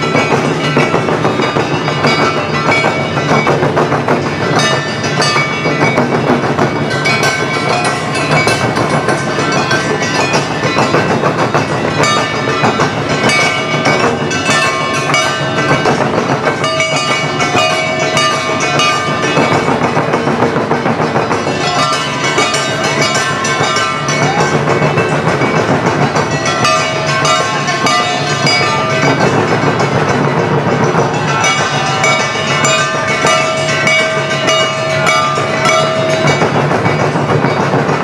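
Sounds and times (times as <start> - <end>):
taiko drums beaten fast: 0.0 - 38.0.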